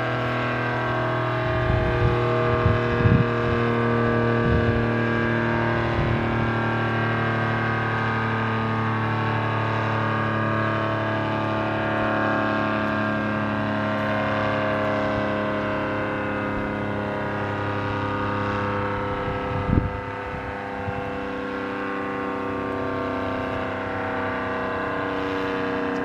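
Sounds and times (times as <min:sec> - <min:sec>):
warning siren steady chord: 0:00.0 - 0:26.0.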